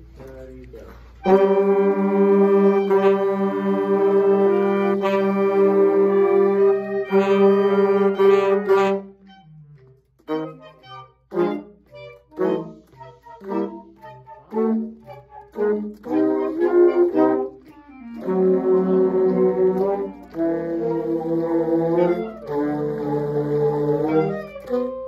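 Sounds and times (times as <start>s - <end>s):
saxophone duet: 0.4s - 25.0s.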